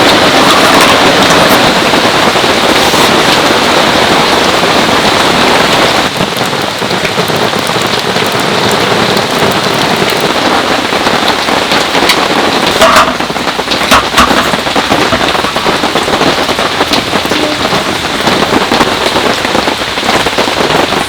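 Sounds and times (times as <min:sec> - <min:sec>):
heavy rain downpour: 0:00.0 - 0:21.0.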